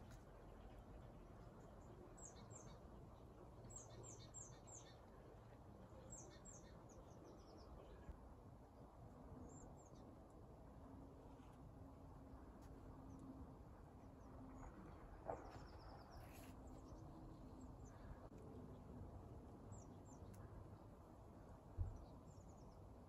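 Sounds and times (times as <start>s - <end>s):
songbird chirps: 0.0s - 10.4s, 12.4s - 23.0s
quiet outdoor hiss: 0.0s - 23.0s.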